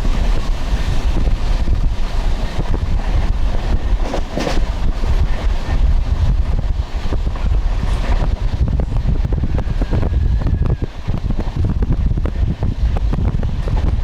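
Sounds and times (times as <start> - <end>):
passenger train rumble: 0.0 - 14.0
wind buffeting microphone: 0.0 - 14.0.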